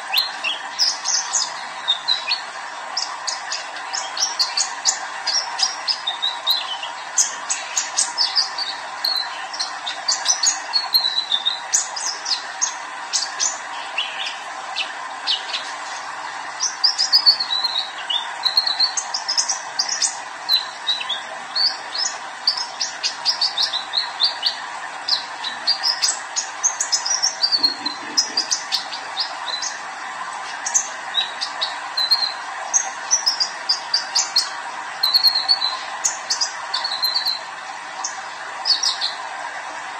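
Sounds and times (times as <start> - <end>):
sunbird singing: 0.0 - 15.7, 16.6 - 29.9, 30.5 - 39.2.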